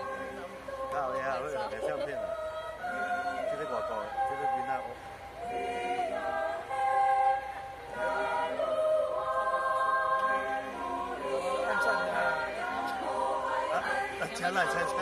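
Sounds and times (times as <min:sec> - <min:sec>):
youth choir singing unaccompanied: 0:00.0 - 0:15.0.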